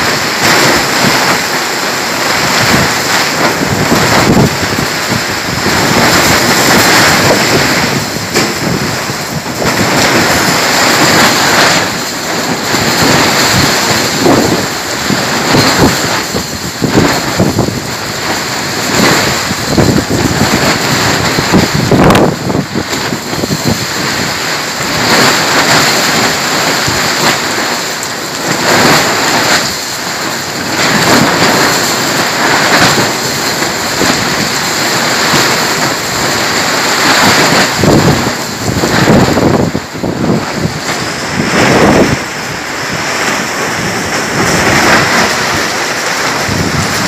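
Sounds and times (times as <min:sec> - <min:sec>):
gusting wind: 0:00.0 - 0:47.0
heavy rain: 0:00.0 - 0:47.0
wind buffeting microphone: 0:00.0 - 0:47.0.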